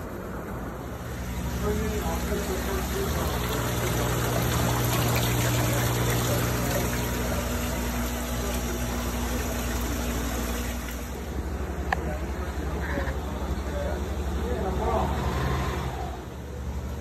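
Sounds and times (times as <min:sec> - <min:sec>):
water pump humming: 0:00.0 - 0:17.0
water bubbling in a tank: 0:00.7 - 0:17.0.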